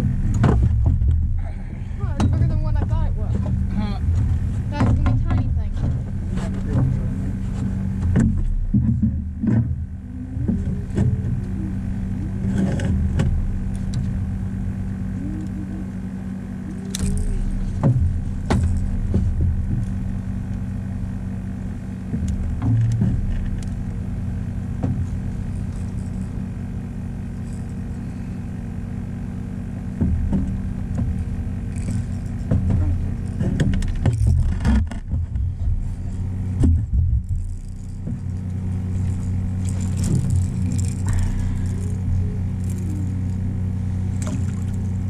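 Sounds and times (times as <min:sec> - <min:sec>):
boat motor droning: 0:00.0 - 0:45.0
knocks and clatters on boat: 0:00.0 - 0:45.0.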